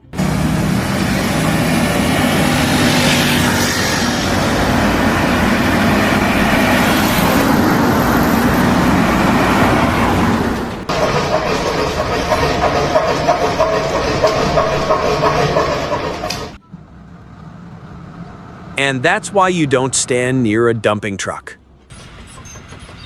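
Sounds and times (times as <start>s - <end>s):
heavy machinery noise: 0.0s - 20.8s.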